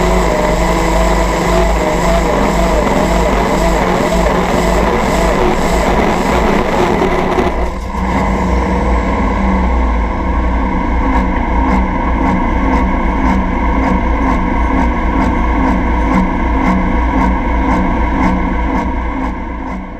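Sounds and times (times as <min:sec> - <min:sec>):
tractor diesel engine: 0:00.0 - 0:19.9.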